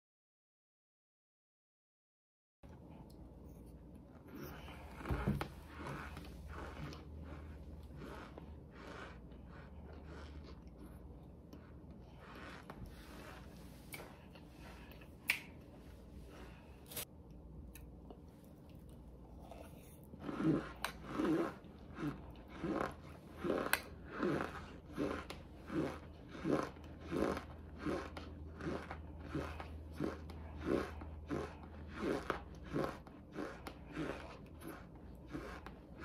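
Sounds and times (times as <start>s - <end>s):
crunchy chewing: 3.0s - 15.6s, 17.7s - 36.0s.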